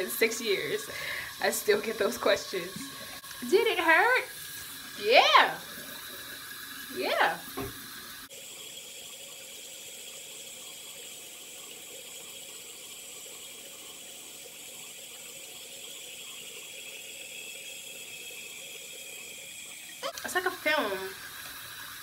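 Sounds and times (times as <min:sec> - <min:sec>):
water running from sink tap: 0:00.0 - 0:22.0.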